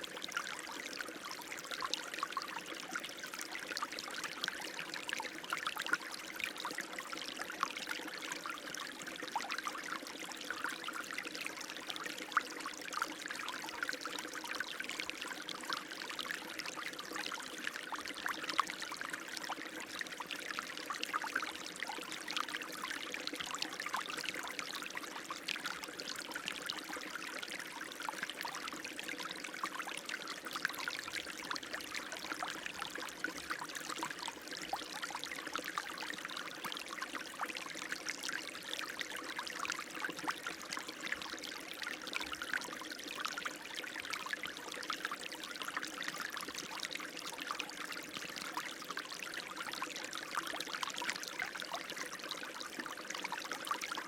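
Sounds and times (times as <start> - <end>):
water flowing and trickling: 0.0 - 54.0.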